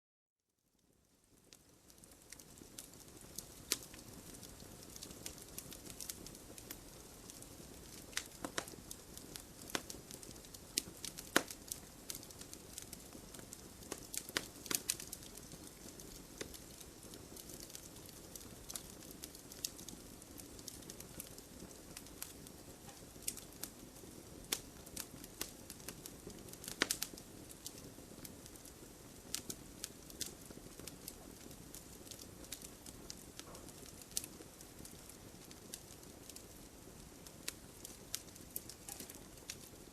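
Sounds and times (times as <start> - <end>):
low steady fire hiss: 0.5 - 39.9
campfire crackling and popping: 0.8 - 39.9.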